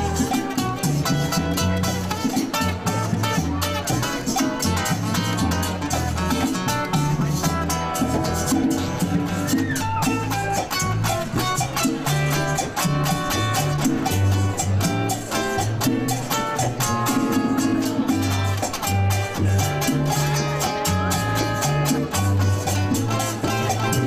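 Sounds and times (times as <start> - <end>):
latin band music with guitar: 0.0 - 24.0.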